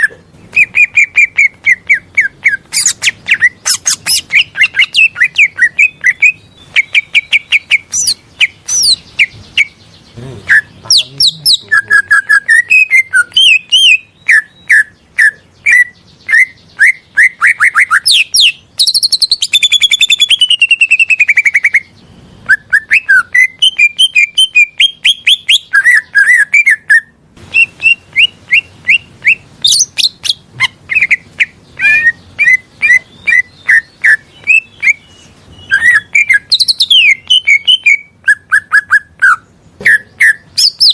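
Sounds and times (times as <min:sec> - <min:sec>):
bird singing chirps and whistles: 0:00.0 - 0:09.8, 0:10.4 - 0:40.9.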